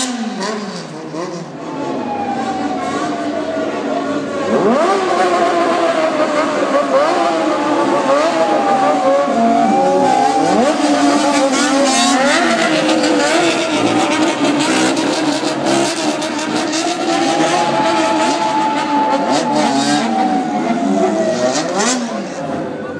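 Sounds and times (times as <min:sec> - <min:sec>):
motorcycle and car engines revving: 0:00.0 - 0:22.9.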